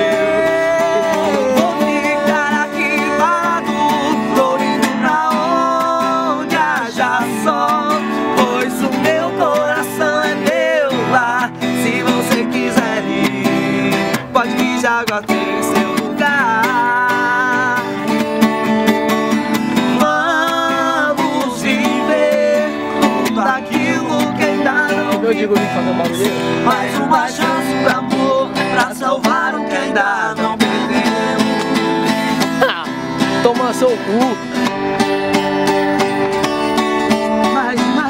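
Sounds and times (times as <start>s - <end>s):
two men singing: 0.0s - 33.5s, 37.0s - 38.0s
strummed acoustic guitar: 0.0s - 38.0s.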